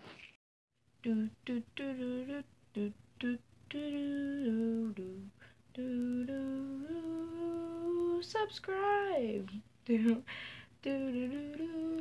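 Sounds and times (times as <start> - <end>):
woman humming a tune: 1.0 - 12.0.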